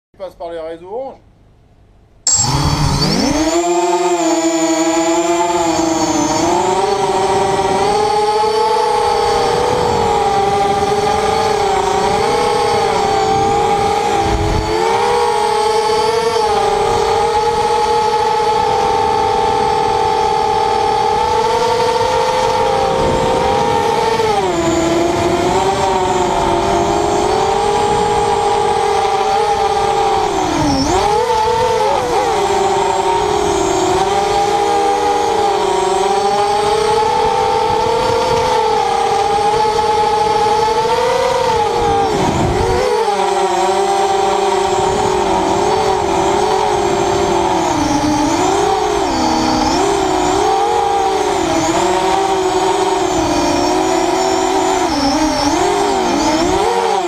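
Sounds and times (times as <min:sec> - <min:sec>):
quadcopter motors whining: 0:02.2 - 0:57.0.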